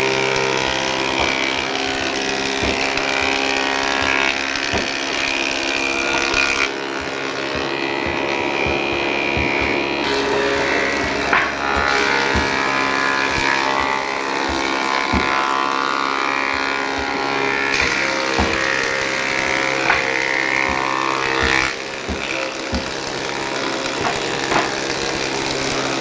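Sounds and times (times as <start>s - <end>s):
woodworking machine humming: 0.0s - 26.0s
irregular knocks: 0.5s - 25.4s.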